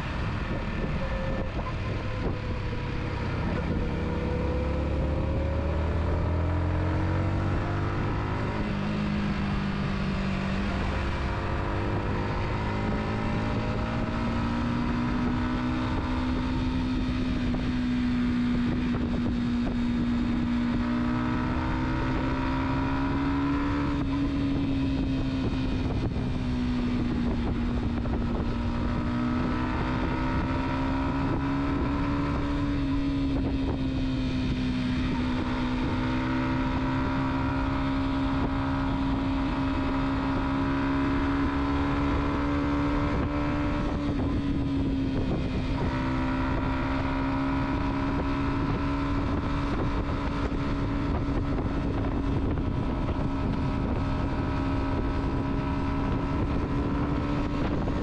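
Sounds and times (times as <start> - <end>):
car engine hum: 0.0 - 58.0
road and wind noise: 0.0 - 58.0.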